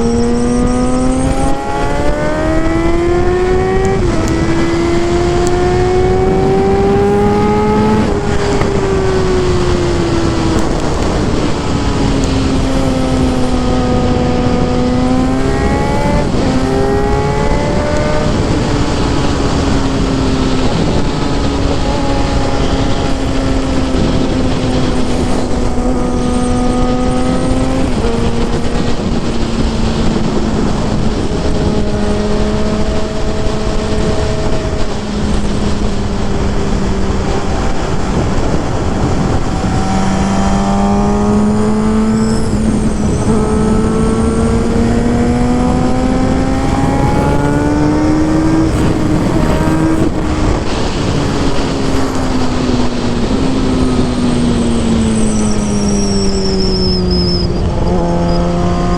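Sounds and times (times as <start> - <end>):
heavy rushing noise: 0.0 - 58.9
motorcycle engine and exhaust: 0.0 - 58.9.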